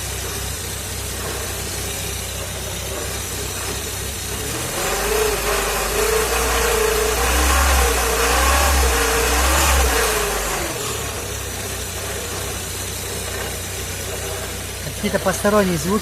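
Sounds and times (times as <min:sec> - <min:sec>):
car engine humming: 0:00.0 - 0:16.0.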